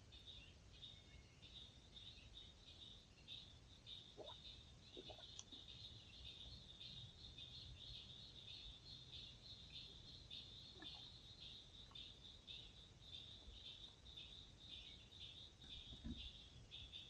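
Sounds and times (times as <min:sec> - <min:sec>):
faint short insect calls: 0:00.0 - 0:17.0
insect chirring: 0:01.5 - 0:17.0.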